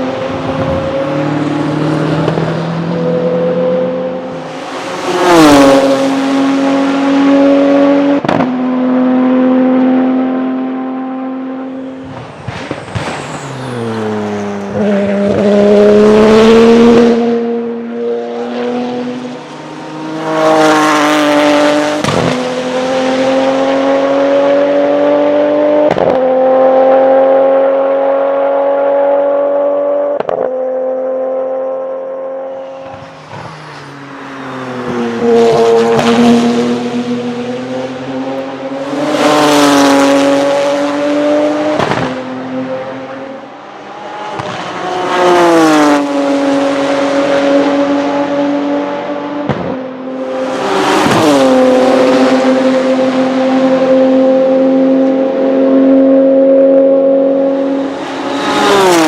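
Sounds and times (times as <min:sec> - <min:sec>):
race car engine pulling hard: 0:00.0 - 0:59.0.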